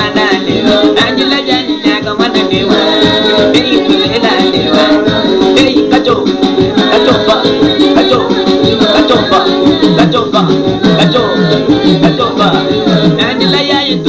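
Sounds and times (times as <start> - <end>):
music with plucked guitar: 0.0 - 14.0
shaker-like beat: 0.0 - 14.0.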